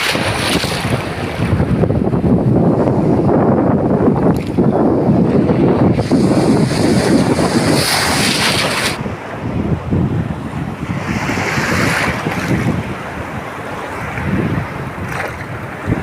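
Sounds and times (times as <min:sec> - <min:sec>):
waves breaking on a beach: 0:00.0 - 0:03.3, 0:04.3 - 0:16.0
wind buffeting microphone: 0:00.0 - 0:16.0.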